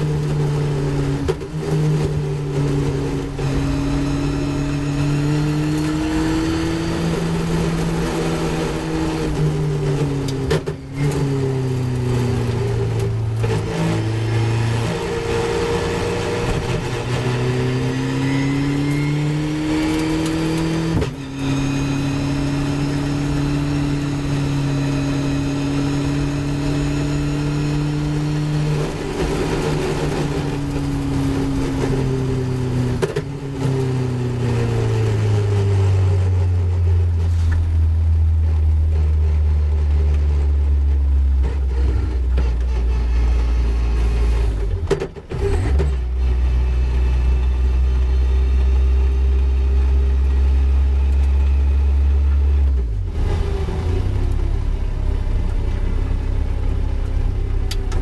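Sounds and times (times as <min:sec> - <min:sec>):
car engine under way: 0:00.0 - 0:58.0.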